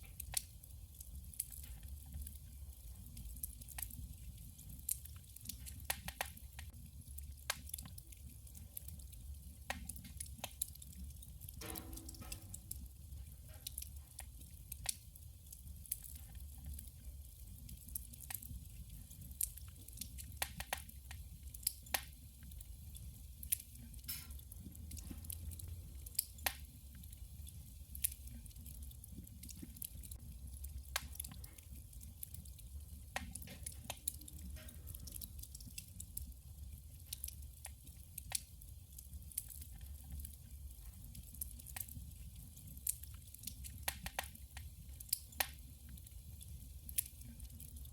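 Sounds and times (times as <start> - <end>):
wood crackling in stove: 0.0 - 47.9.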